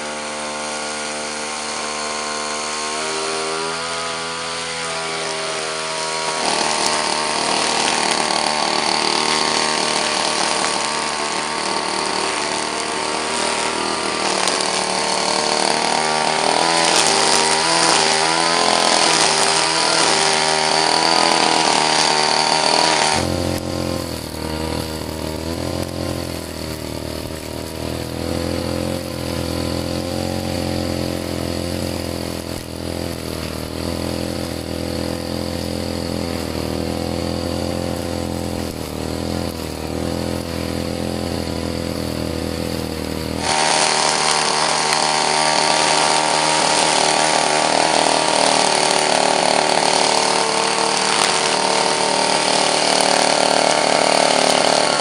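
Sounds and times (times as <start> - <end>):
brush cutter engine running: 0.0 - 55.0
metal blade cutting grass: 0.0 - 55.0.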